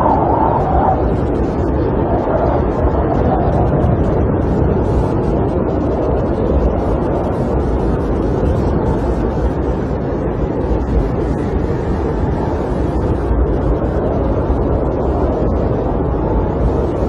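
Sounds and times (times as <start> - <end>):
wind buffeting a camper: 0.0 - 17.0.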